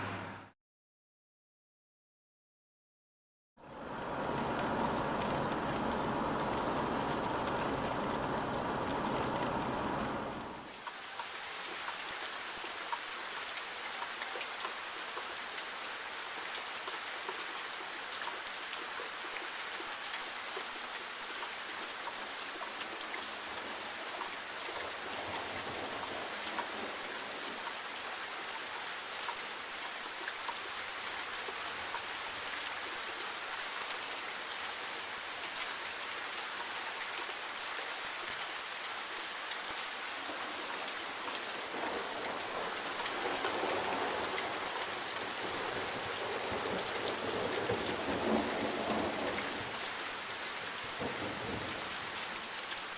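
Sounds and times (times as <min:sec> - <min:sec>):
steady rain falling: 0:03.6 - 0:52.9.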